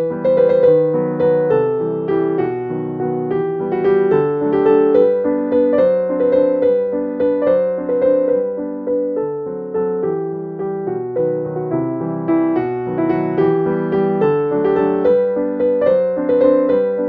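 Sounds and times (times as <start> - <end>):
piano-like keyboard music: 0.0 - 17.0.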